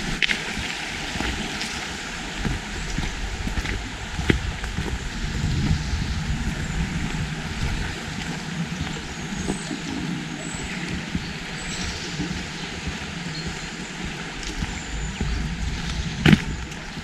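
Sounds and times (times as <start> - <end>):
low rumble: 1.0 - 17.0.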